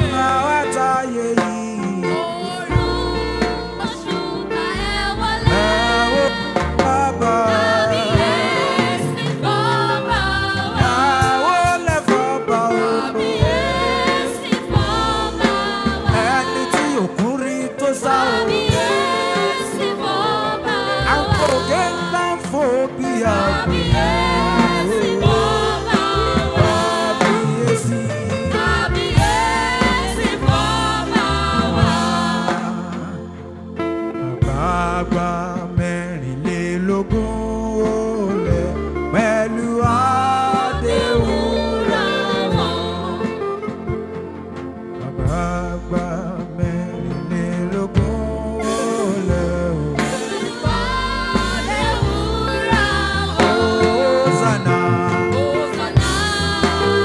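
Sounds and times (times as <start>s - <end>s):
band with bass and percussion: 0.0s - 57.0s
choir singing gospel music: 0.0s - 57.0s.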